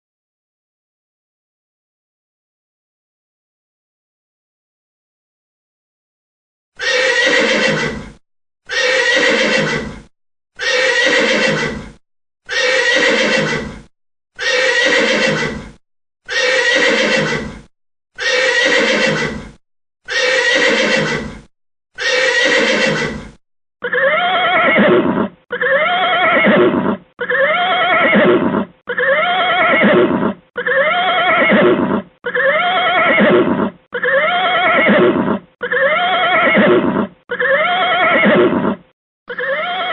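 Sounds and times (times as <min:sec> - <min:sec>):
horse whinnying: 0:06.8 - 0:39.9.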